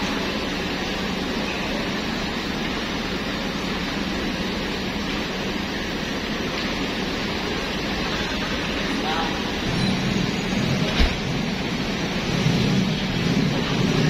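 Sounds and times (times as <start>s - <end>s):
air-conditioning hum: 0.0s - 14.0s
bus engines idling: 0.0s - 14.0s.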